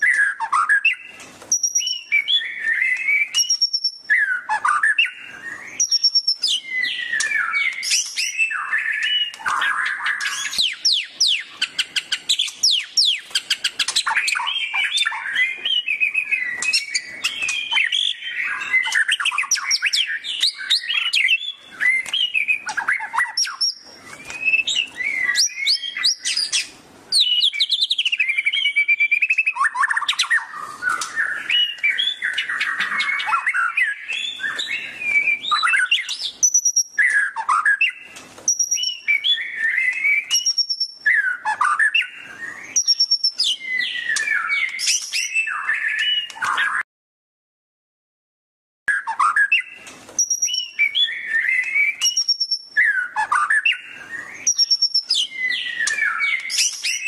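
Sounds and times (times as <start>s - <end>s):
bird singing whistles and trills: 0.0s - 46.8s, 48.9s - 57.0s.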